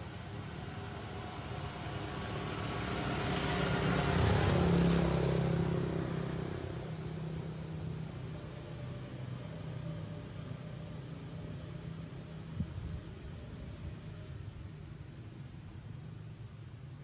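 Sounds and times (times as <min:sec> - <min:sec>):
vehicle engine passing by: 0:00.1 - 0:15.1.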